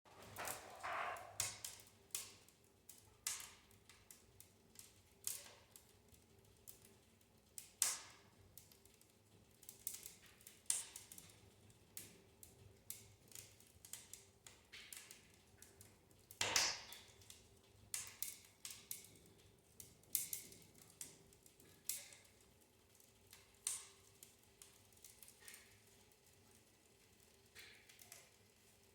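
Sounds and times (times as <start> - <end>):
wood fire crackling: 0.1 - 28.9.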